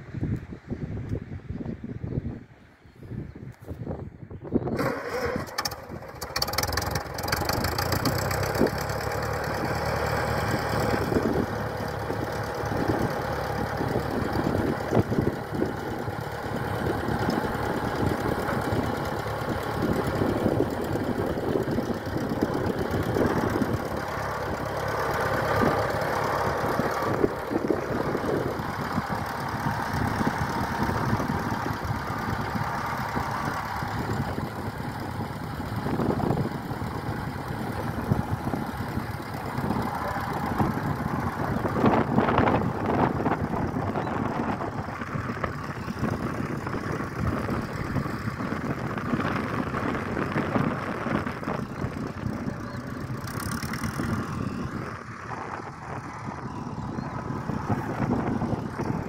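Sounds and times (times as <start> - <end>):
tractor engine running: 4.7 - 59.0.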